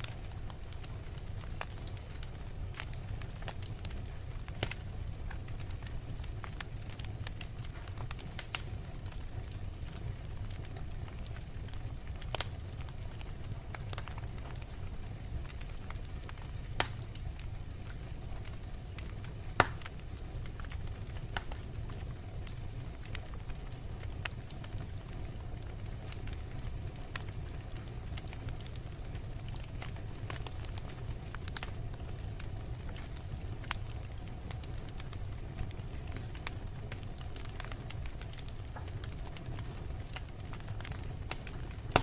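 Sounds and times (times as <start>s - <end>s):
fire crackling and popping: 0.0s - 42.0s
log fire rumbling: 0.0s - 42.0s.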